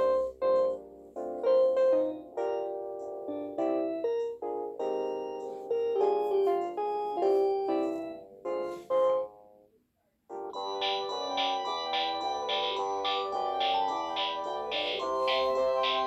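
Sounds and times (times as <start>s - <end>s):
piano music: 0.0s - 9.7s, 10.3s - 16.0s.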